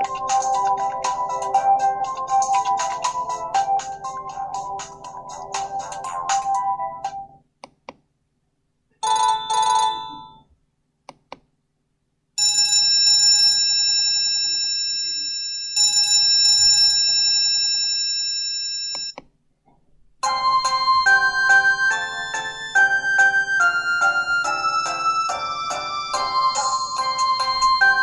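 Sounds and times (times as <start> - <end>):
bell-like phone ringtone: 0.0 - 7.3, 9.0 - 10.4, 12.4 - 19.2, 20.2 - 28.0.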